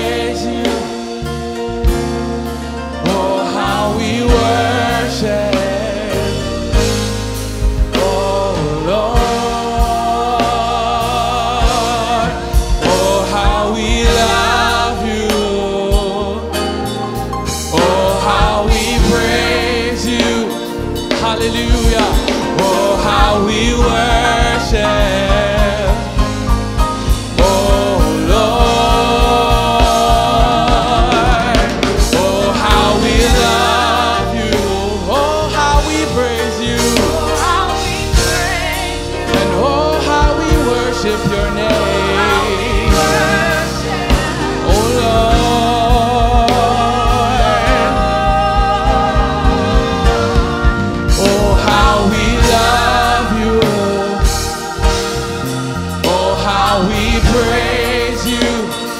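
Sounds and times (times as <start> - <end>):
gospel singer with vibrato: 0.0 - 58.9
instrumental backing with beat: 0.0 - 58.9.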